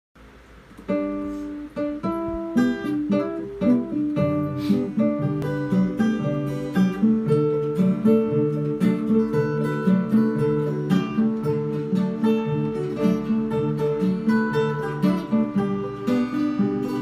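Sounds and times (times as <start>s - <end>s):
guitar picked notes and chords: 0.3s - 17.0s.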